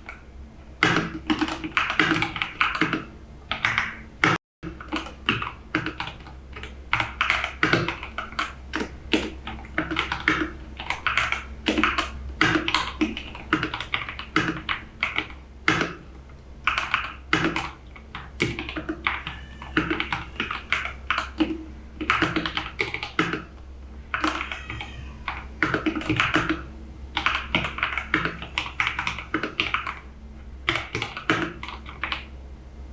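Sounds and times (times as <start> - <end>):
mechanical keyboard typing: 0.8 - 4.0, 4.7 - 23.5, 24.1 - 26.6, 27.2 - 30.1, 30.7 - 32.3.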